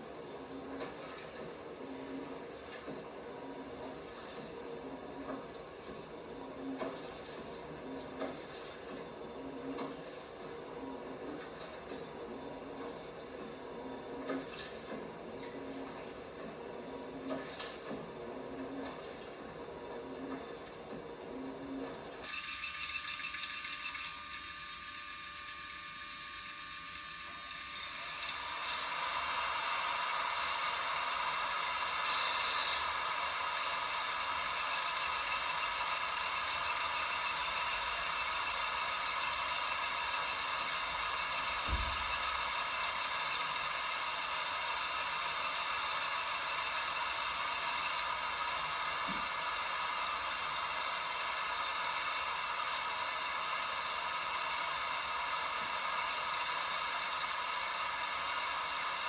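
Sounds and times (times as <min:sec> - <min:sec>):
washing machine hissing: 0:00.0 - 0:59.0.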